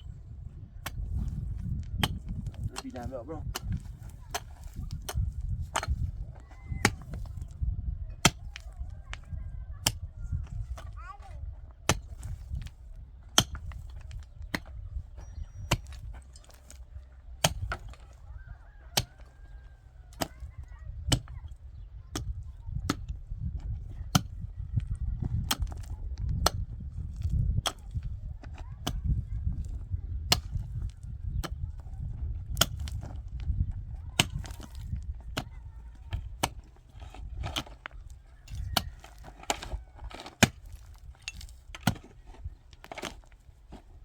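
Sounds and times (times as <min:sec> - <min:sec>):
constant low rumble: 0:00.0 - 0:44.0.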